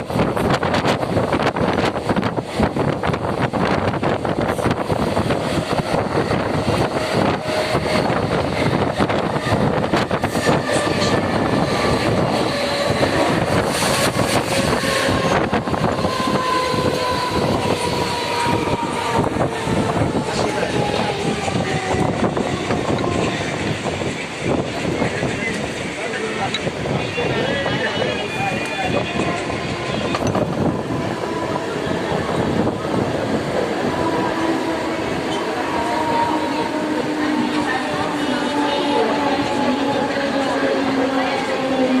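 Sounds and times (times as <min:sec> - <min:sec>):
train wheels rumbling and rattling: 0:00.0 - 0:42.0.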